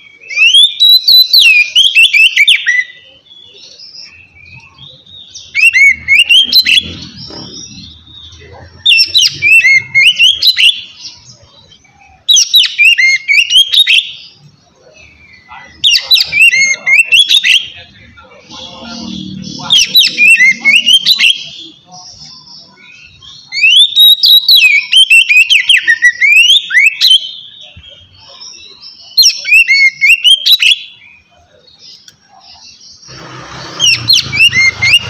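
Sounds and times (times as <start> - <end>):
bird singing whistled song: 0.0 - 17.9, 18.6 - 32.7, 33.8 - 35.0.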